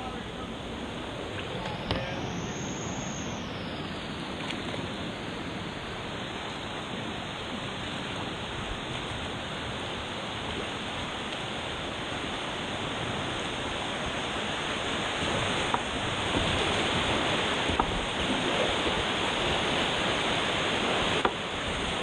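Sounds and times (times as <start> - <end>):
creek rushing over rapids: 0.0 - 22.0.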